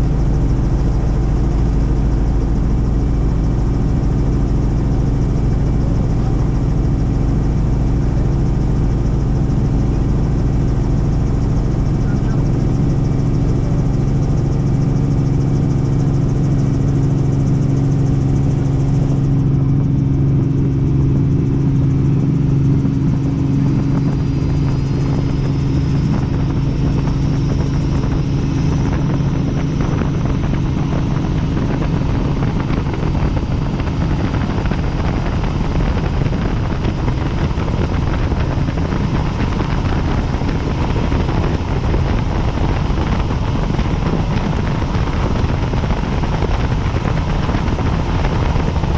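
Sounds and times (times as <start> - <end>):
helicopter rotor drone: 0.0 - 48.9.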